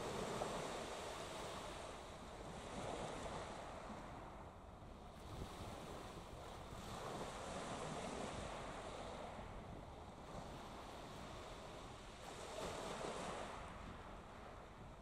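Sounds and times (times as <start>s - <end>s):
waves washing on shore: 0.0s - 4.3s, 5.2s - 14.7s
wind on microphone: 0.0s - 15.0s.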